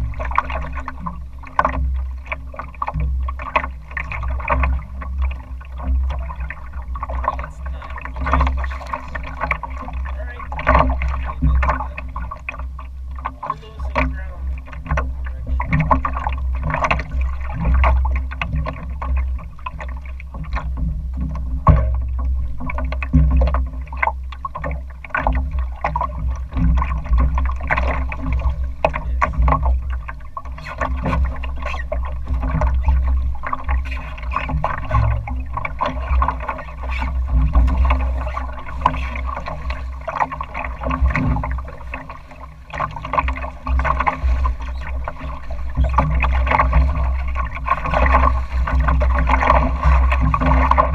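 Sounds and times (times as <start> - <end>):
water slapping against boat hull: 0.0 - 50.9.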